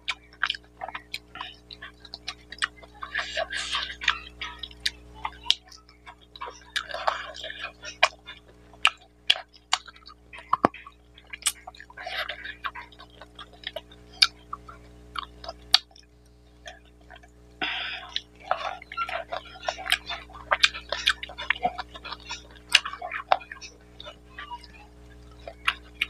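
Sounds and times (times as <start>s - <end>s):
faint steady hum: 0.0s - 26.0s
mouth chewing wetly: 0.0s - 26.0s.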